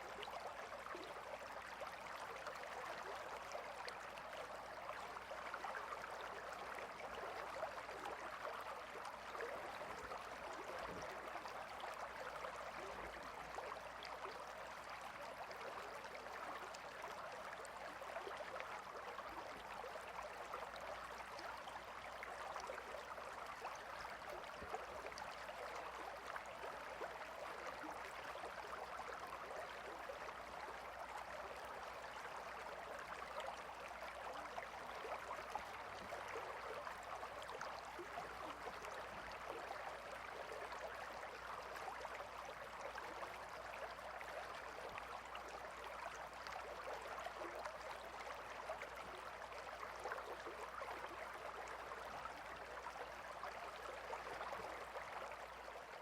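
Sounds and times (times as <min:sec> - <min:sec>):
river water babbling: 0:00.0 - 0:56.0.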